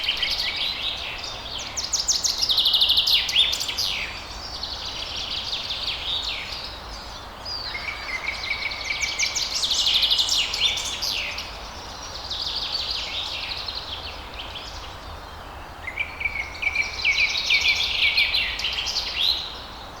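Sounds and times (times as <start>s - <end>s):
forest birds singing and chirping: 0.0s - 20.0s
steady background hiss: 0.0s - 20.0s.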